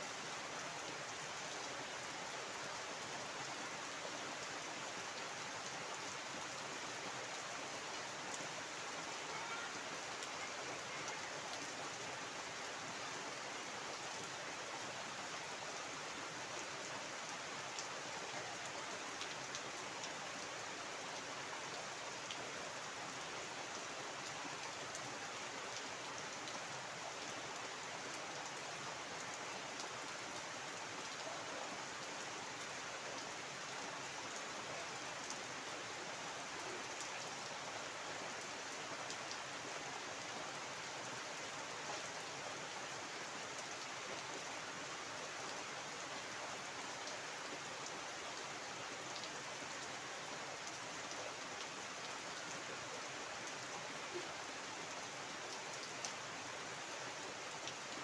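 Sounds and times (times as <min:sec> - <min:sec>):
heavy rain on water and foliage: 0:00.0 - 0:58.0.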